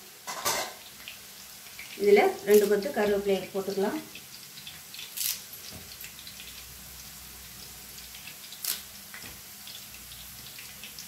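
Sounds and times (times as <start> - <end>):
batter sizzling in hot oil: 0.0 - 11.0
leaves spluttering in hot oil: 0.0 - 11.0.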